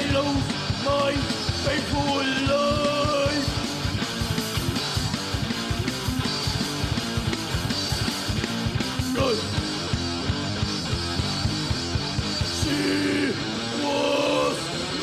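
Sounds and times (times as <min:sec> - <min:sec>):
electric guitar chords: 0:00.0 - 0:15.0
fast driving drums: 0:00.0 - 0:15.0.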